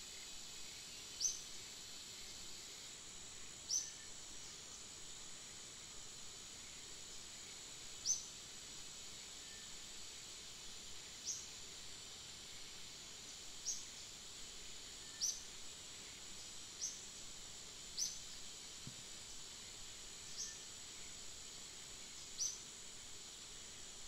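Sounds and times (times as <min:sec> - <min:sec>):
high insect buzz: 0:00.0 - 0:24.0.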